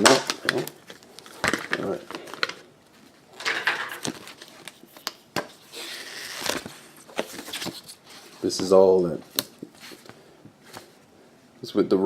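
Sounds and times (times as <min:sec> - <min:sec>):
packaging rustling: 0:00.0 - 0:11.0.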